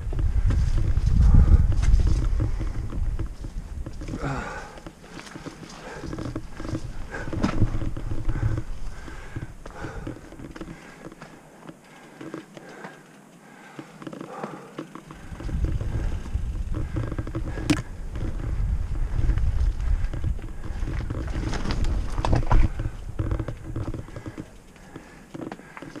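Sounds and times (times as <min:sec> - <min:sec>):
wind rumbling on microphone: 0:00.0 - 0:11.2, 0:15.0 - 0:26.0
bike rattling and clicking: 0:00.0 - 0:26.0.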